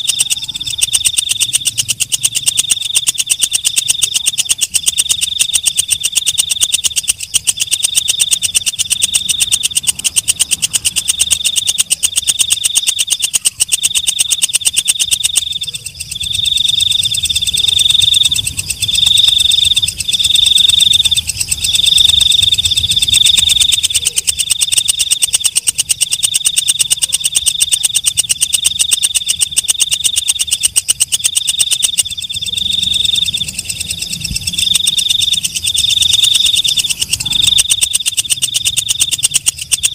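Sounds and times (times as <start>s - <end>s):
katydid ticking trill and chirp: 0.0s - 39.9s.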